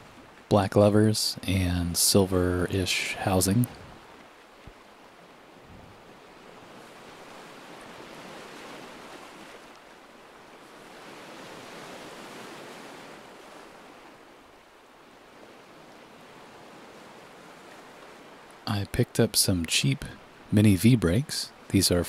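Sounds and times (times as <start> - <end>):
ocean waves washing ashore: 0.0 - 22.0.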